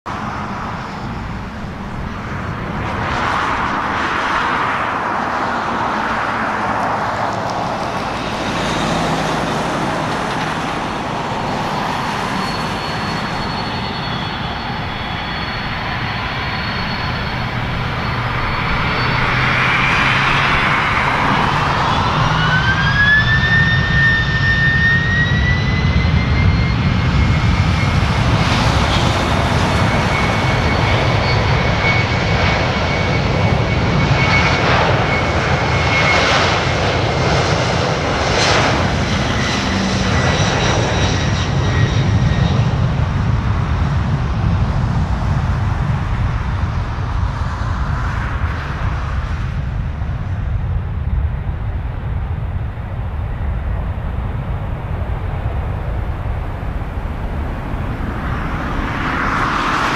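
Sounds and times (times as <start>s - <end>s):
jet engine rumble: 0.1s - 59.9s
jet engine whine: 0.1s - 59.9s.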